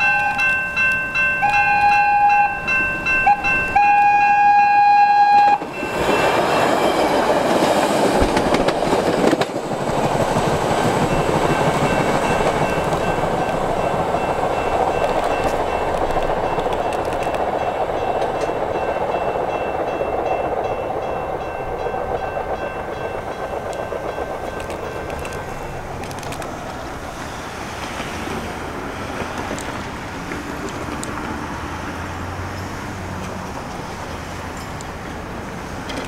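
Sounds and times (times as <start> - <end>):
rapid transit train running: 0.0 - 36.0.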